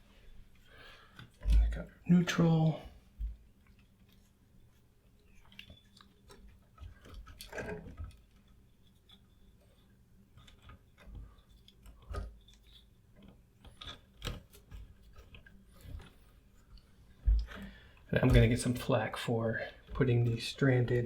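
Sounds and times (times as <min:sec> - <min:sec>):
wire rustling: 0:00.0 - 0:21.0.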